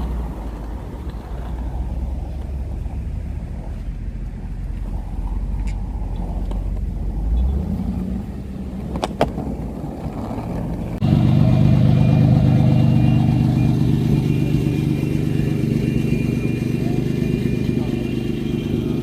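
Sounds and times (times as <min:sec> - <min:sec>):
car engine idling: 0:00.0 - 0:19.0
loud steady engine hum: 0:00.0 - 0:19.0.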